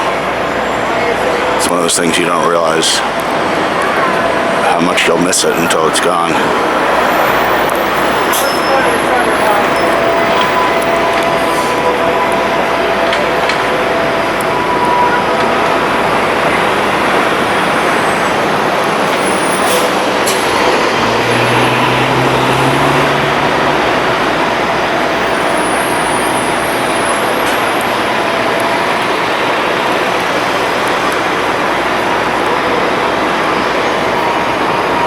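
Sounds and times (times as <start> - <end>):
city street traffic: 0.0 - 35.0
vehicle engine hum: 0.0 - 35.0.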